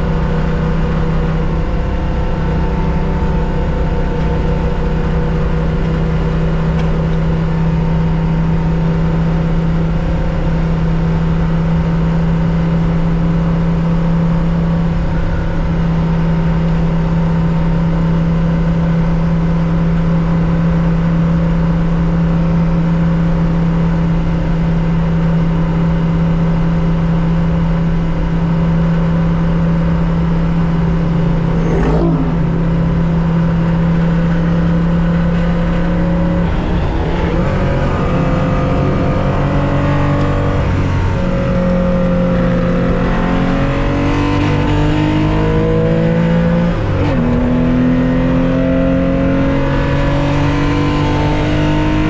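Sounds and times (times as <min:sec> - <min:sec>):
car engine at steady revs: 0:00.0 - 0:52.0.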